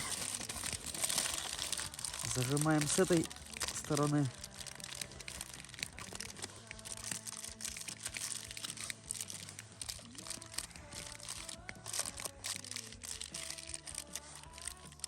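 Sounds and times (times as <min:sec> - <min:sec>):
quiet background music: 0:00.0 - 0:15.0
wrapping crinkling by hand: 0:00.0 - 0:15.0.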